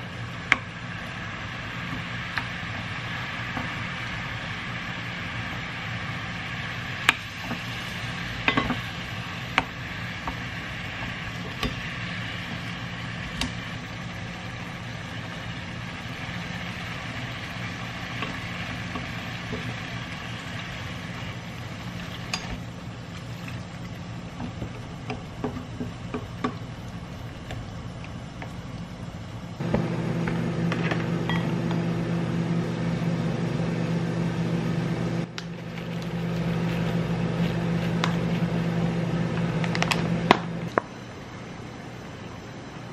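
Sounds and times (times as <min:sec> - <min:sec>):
gas burner humming: 0:00.0 - 0:42.9
louder steady hum: 0:00.0 - 0:42.9.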